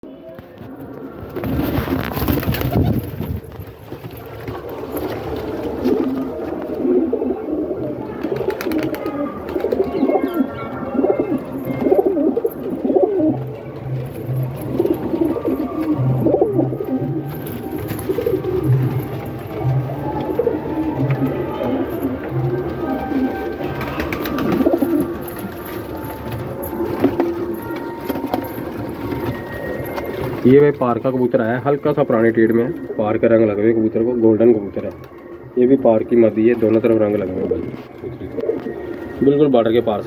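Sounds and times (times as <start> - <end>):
pigeons cooing: 3.9 - 40.0.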